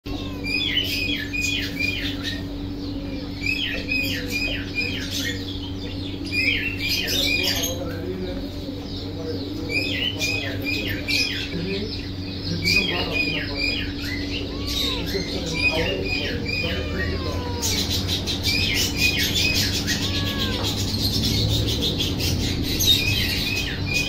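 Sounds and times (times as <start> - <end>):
birds chirping and squawking: 0.0 - 24.0
steady low hum: 0.1 - 24.0.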